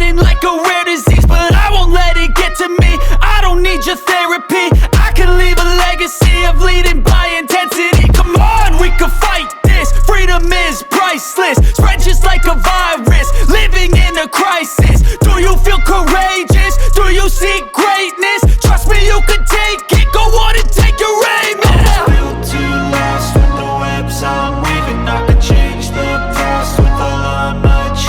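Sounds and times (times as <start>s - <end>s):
hip hop music with booming bass: 0.0s - 28.0s.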